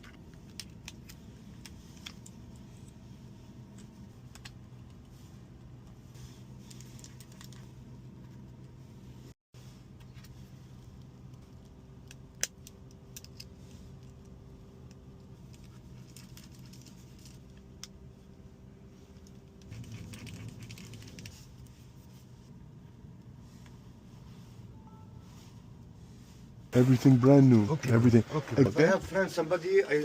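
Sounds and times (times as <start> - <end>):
rustling and handling: 0.0 - 30.0
steady low hum: 0.0 - 30.0.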